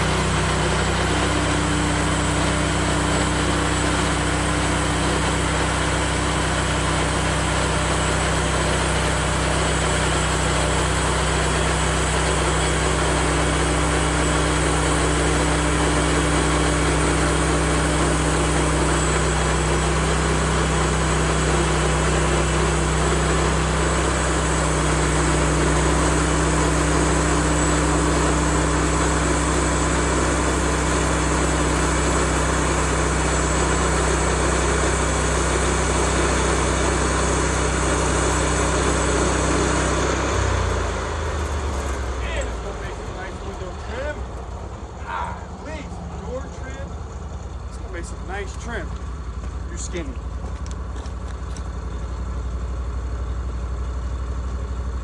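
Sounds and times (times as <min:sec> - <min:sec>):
sawmill gas engine running: 0:00.0 - 0:55.0.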